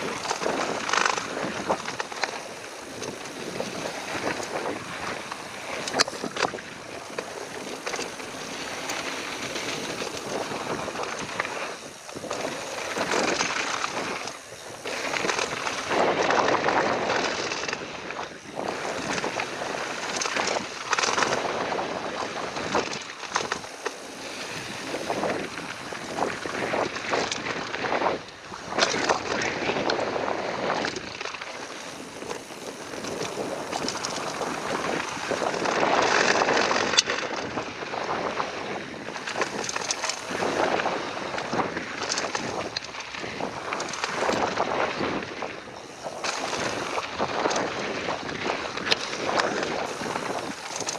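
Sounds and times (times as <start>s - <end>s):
bike knocks and rattles: 0.0s - 50.9s
tyres rolling on dirt: 0.0s - 50.9s
wind on microphone: 0.0s - 50.9s.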